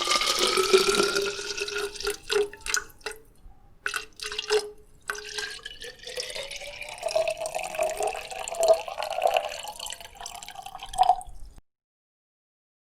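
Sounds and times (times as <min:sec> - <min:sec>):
water pouring into a glass: 0:00.0 - 0:11.6.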